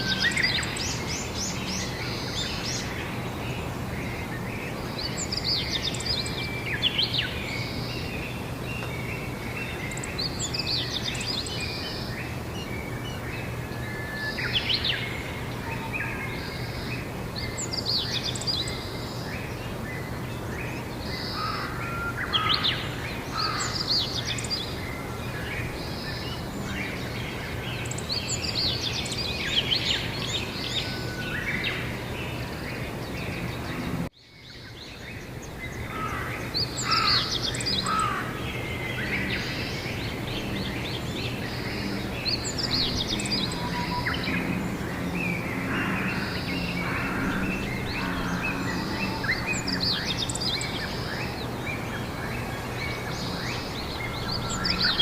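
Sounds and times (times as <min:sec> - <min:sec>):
outdoor background hiss: 0:00.0 - 0:55.0
songbirds singing: 0:00.0 - 0:55.0.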